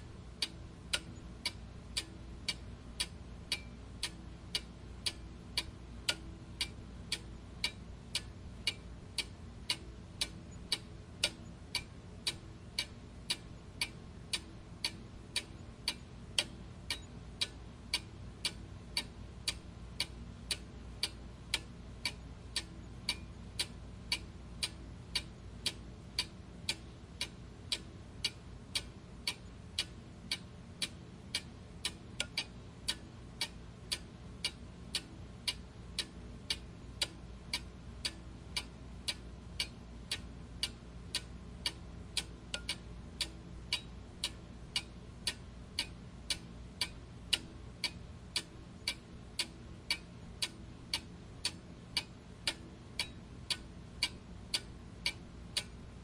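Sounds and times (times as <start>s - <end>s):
faint low hum: 0.0s - 56.0s
clock ticking: 0.4s - 55.9s.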